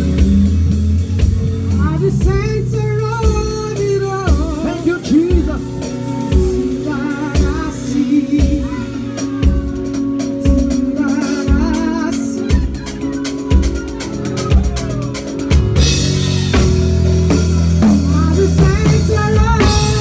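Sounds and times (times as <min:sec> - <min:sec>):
drum kit playing: 0:00.0 - 0:20.0
sustained band instruments: 0:00.0 - 0:20.0
person singing: 0:01.0 - 0:20.0.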